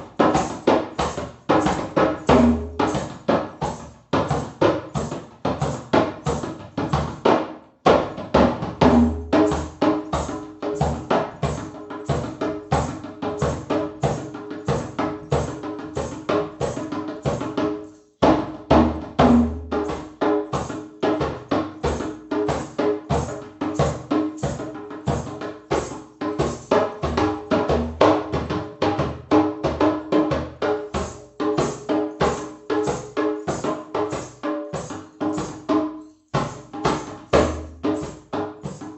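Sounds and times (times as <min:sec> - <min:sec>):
fast drum strokes: 0:00.0 - 0:38.9.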